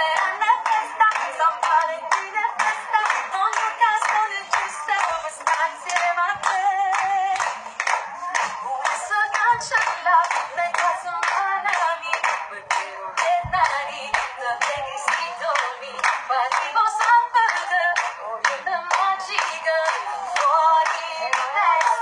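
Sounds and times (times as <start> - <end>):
hands clapping a beat: 0.0 - 22.0
woman singing pop song: 0.0 - 22.0.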